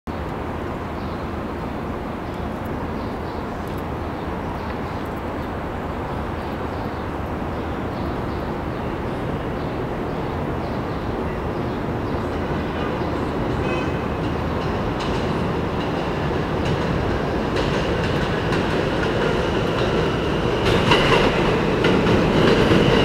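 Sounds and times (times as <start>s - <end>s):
city rumble and hiss: 0.1s - 23.0s
distant subway train approaching: 0.1s - 23.0s.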